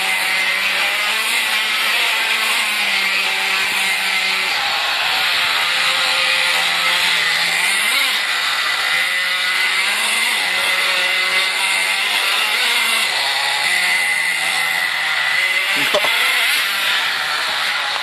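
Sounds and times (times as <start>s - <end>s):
rc car engine buzzing: 0.0s - 18.0s.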